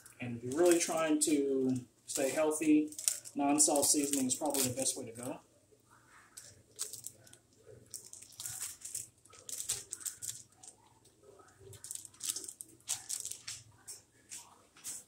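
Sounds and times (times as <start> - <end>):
plastic bag crinkling: 0.0 - 5.4, 6.3 - 14.0.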